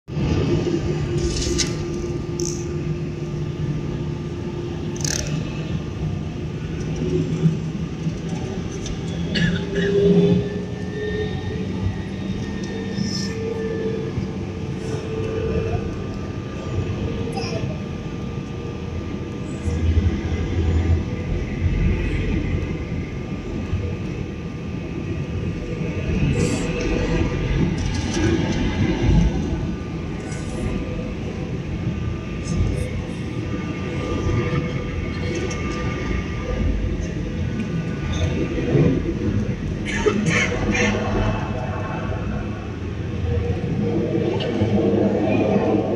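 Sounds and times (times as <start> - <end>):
airliner engine drone: 0.1 - 45.9.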